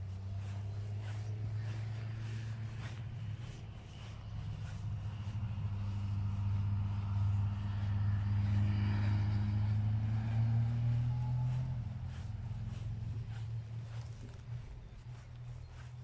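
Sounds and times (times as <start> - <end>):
vehicle engine hum passing by: 0.0 - 16.0.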